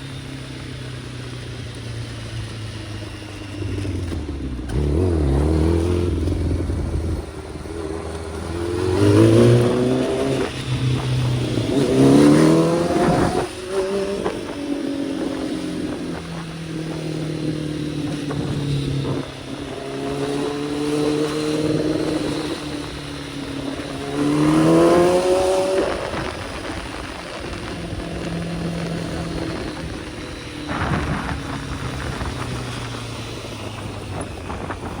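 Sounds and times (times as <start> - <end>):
sport bike engine revving: 0.0 - 35.0.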